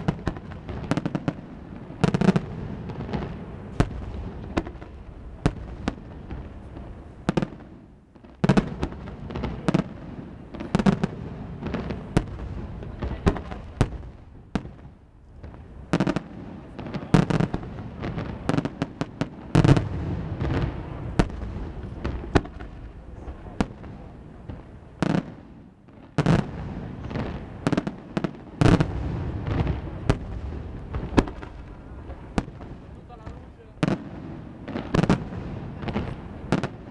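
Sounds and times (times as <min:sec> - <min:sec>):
fireworks cracks and booms: 0:00.0 - 0:36.9.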